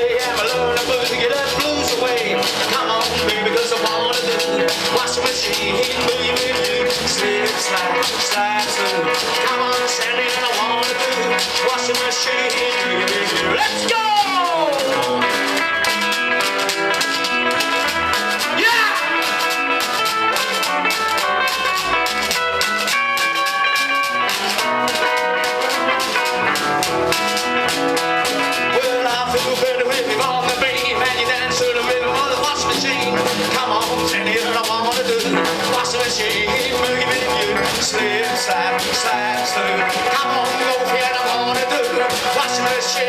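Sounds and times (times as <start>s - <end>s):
bass and drum rhythm: 0.0s - 43.0s
blues guitar solo: 0.0s - 43.0s.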